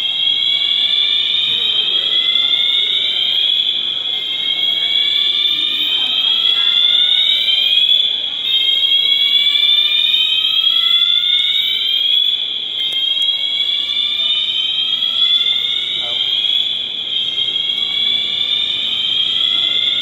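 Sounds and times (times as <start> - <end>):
fire alarm rising tone: 0.0 - 20.0.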